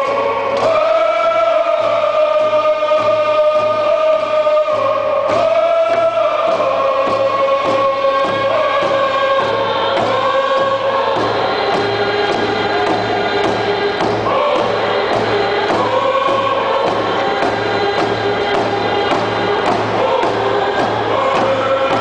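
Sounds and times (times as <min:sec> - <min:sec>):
people singing in unison: 0:00.0 - 0:22.0
hand drum beat: 0:00.1 - 0:22.0.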